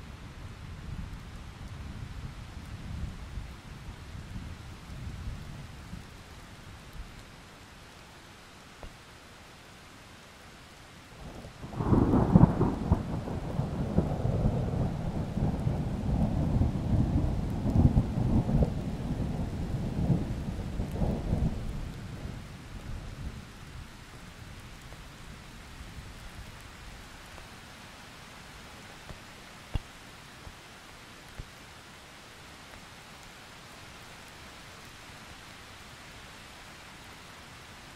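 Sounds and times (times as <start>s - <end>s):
rain hissing: 0.0s - 37.9s.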